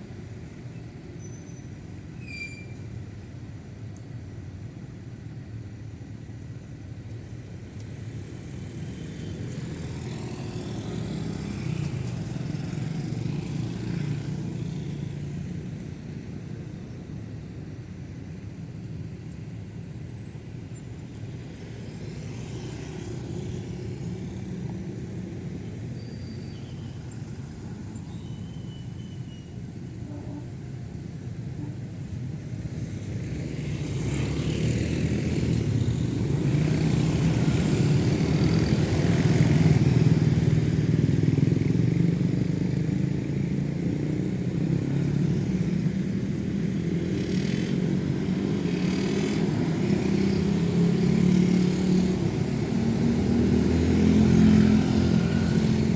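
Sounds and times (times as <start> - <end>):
motorcycle engines: 0.0 - 55.9
car engines: 2.8 - 55.9.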